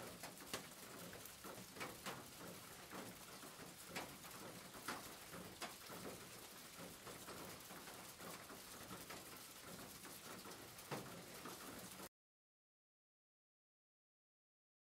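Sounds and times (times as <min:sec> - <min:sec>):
rain patter on car: 0:00.0 - 0:12.1.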